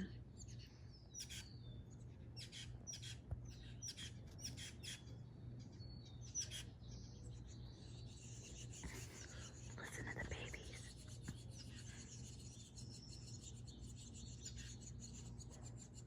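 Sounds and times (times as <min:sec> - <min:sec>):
nestling birds chirping: 0:00.0 - 0:16.0.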